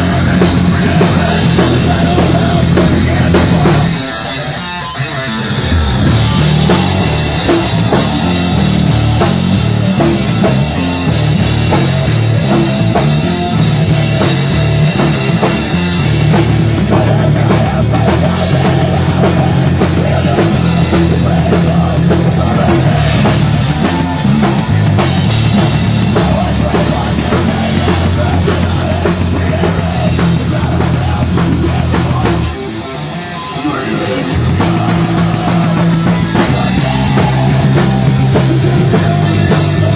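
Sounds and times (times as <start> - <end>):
rock band playing loud: 0.0 - 39.9.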